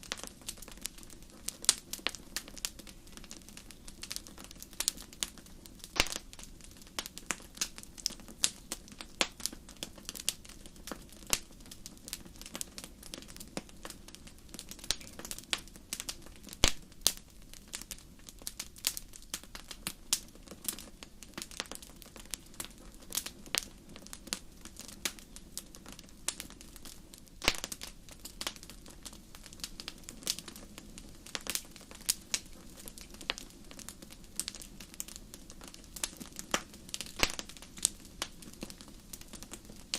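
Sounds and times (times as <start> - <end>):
low hiss: 0.0 - 39.9
wood fire crackling and popping: 0.0 - 39.9.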